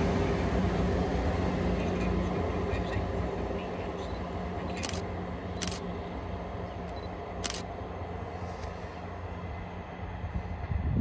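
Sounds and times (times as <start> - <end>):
train engine humming: 0.0 - 11.0.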